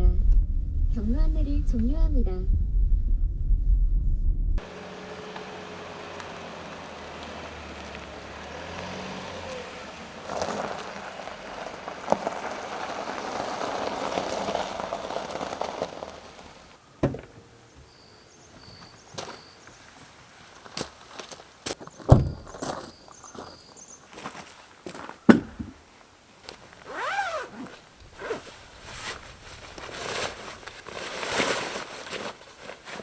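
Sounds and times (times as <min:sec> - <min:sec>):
car tyre and road noise: 0:04.6 - 0:33.0.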